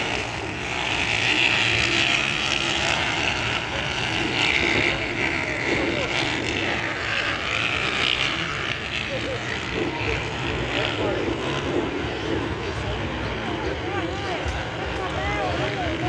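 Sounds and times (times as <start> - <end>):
motocross bikes revving: 0.0 - 16.0
voices: 0.0 - 16.0.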